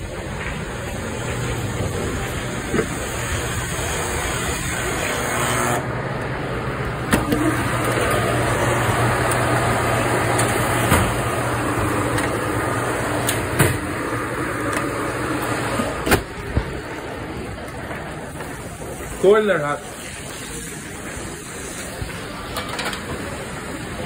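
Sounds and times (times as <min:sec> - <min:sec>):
kitchen ventilation humming: 0:00.0 - 0:24.0.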